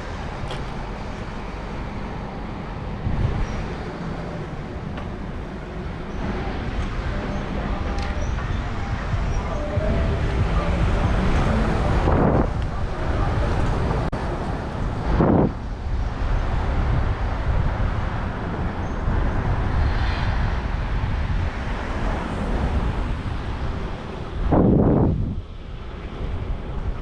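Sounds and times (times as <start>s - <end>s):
city street traffic: 0.0s - 27.0s
wind buffeting microphone: 0.0s - 27.0s.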